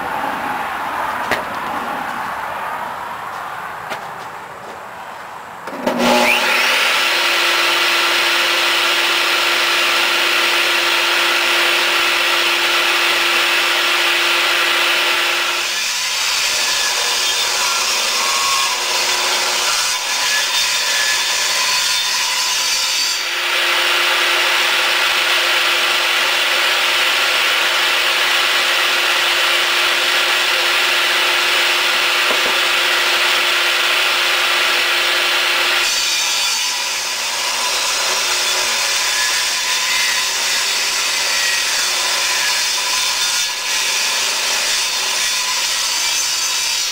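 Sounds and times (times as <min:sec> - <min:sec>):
power saw cutting wood: 0:05.7 - 0:46.9.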